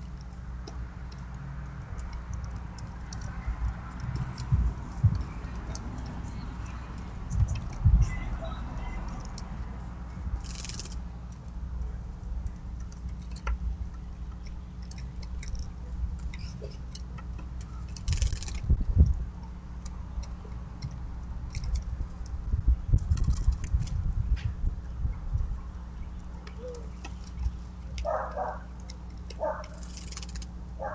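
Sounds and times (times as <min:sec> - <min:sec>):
birds pecking on wooden platform: 0:00.0 - 0:24.0, 0:25.8 - 0:30.9
steady low rumble: 0:00.0 - 0:30.9.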